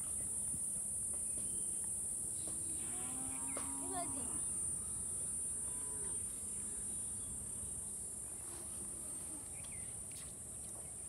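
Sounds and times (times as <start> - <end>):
insects chirring chorus: 0.0 - 11.0.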